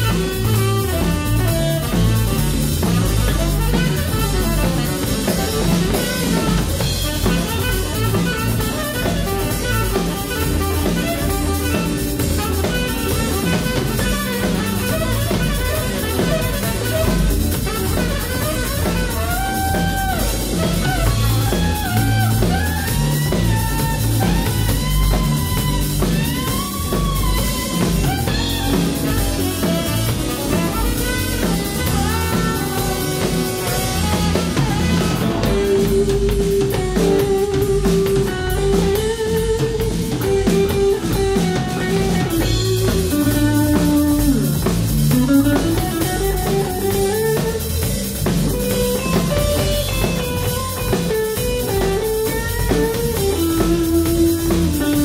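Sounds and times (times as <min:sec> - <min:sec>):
live band playing: 0:00.0 - 0:55.0
sliding melodic lead line: 0:00.0 - 0:55.0.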